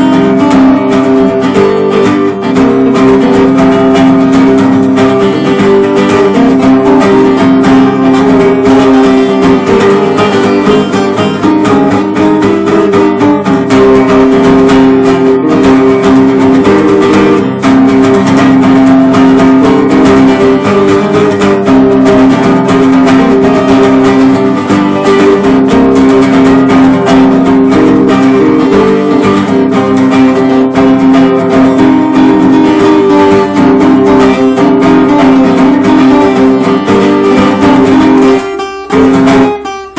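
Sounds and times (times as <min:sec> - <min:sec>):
acoustic guitar plucking and strumming: 0:00.0 - 0:39.9.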